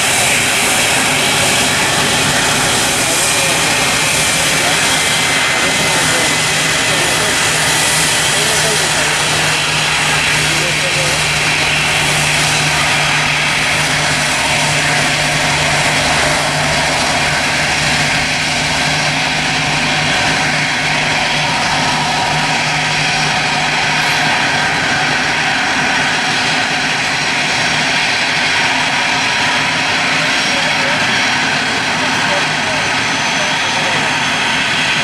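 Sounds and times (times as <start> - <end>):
low hum: 0.0 - 32.9
jet engines roaring: 0.0 - 35.0.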